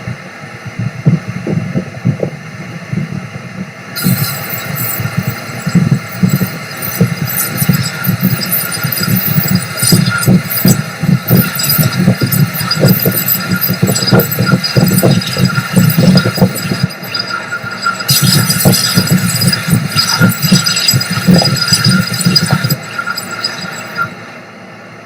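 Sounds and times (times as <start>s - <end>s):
lathe pulsing hum: 0.1s - 25.0s
tool scraping steel crackles: 4.0s - 24.2s.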